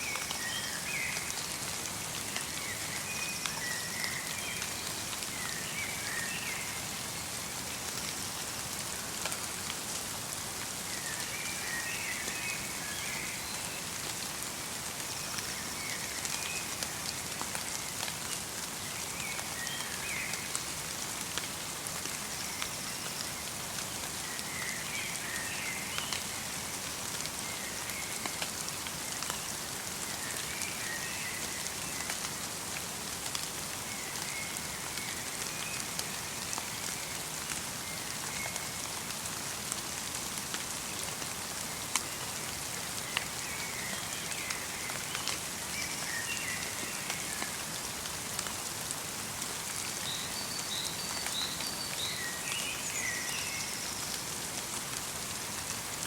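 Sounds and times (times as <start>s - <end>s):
light rain and snow falling: 0.0s - 56.0s.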